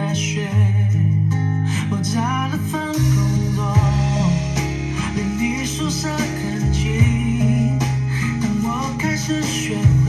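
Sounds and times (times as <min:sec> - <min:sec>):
pop ballad with guitar: 0:00.0 - 0:10.0.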